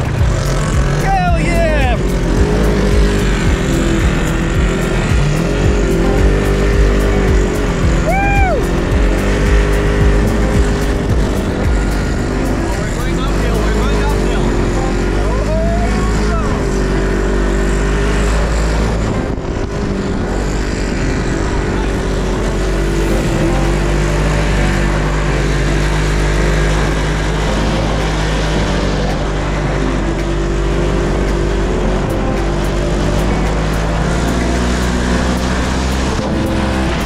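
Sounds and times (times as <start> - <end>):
heavy low rumble: 0.0 - 37.0
off-road vehicle engine running: 0.0 - 37.0.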